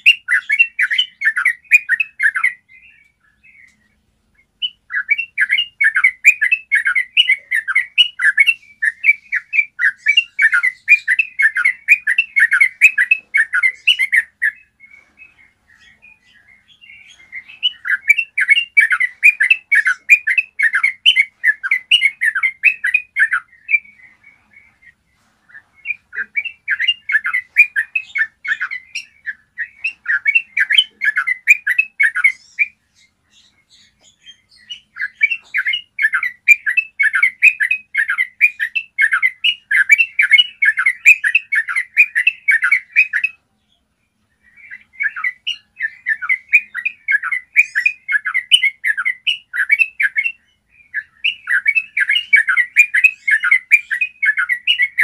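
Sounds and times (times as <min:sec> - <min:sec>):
bulbul singing chattering phrases: 0:00.0 - 0:55.0.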